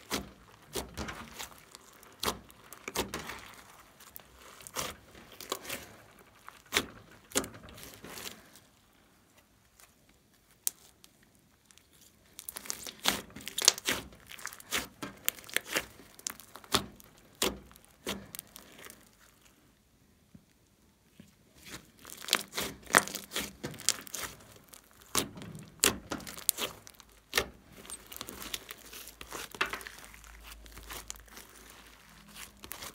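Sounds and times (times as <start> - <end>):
slime squelching and popping: 0.0 - 8.9, 9.7 - 19.6, 21.5 - 32.9.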